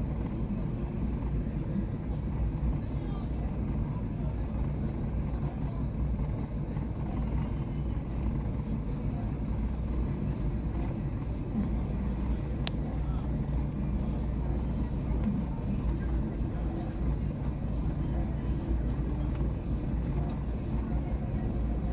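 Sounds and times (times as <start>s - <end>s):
car engine idling roughly: 0.0s - 21.9s.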